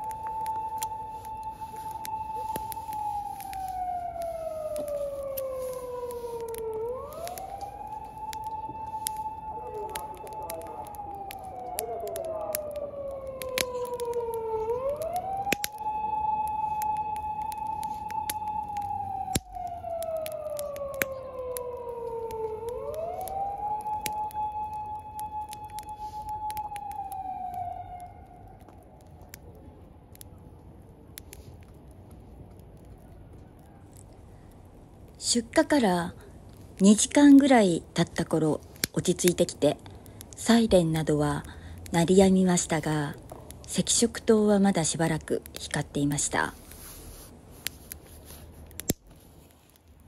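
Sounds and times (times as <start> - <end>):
distant siren wailing: 0.0 - 31.8, 32.4 - 48.8
campfire crackling: 0.0 - 50.0.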